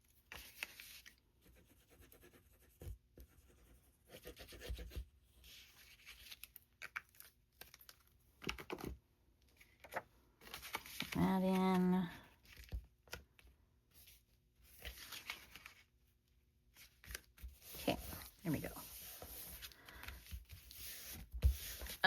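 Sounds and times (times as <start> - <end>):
paper rustling and scratching: 0.1 - 8.9, 9.6 - 11.8, 13.9 - 16.0, 16.7 - 22.0.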